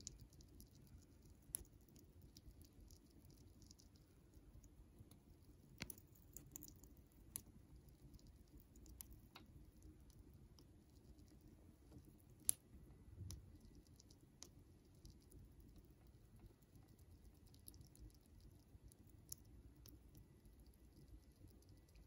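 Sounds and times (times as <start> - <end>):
chipmunk gnawing a nut: 0.0 - 22.0.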